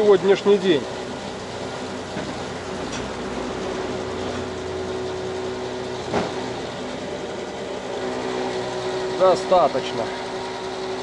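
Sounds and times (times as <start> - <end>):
fuel pump humming: 0.0 - 11.0.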